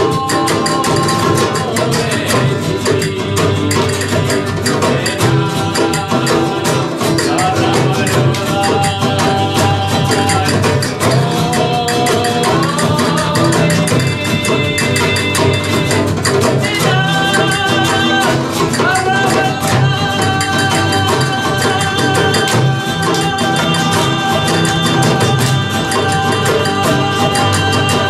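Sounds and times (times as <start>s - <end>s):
acoustic guitars strumming: 0.0s - 28.0s
hand drum beat: 0.0s - 28.0s
person singing long notes: 0.0s - 28.0s.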